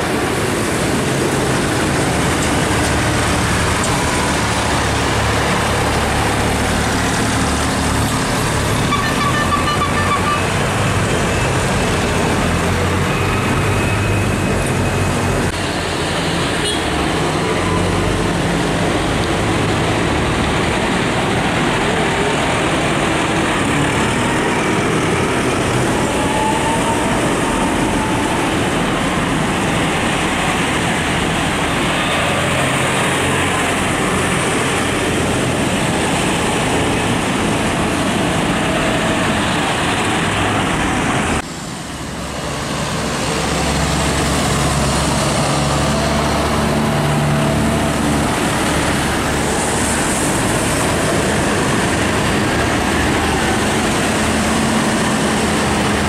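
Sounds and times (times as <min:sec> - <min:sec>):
tractor diesel engines passing: 0:00.0 - 0:56.0
tyres hissing on wet road: 0:00.0 - 0:56.0.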